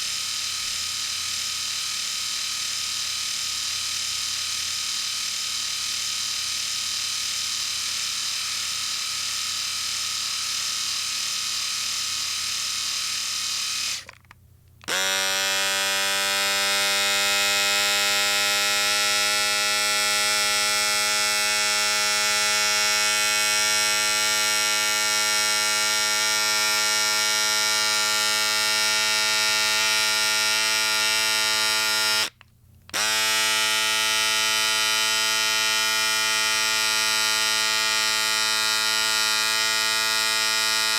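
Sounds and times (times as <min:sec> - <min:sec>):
electric shaver buzzing: 0:00.0 - 0:14.2, 0:14.9 - 0:40.9
electric shaver humming: 0:00.0 - 0:14.2, 0:14.9 - 0:40.9.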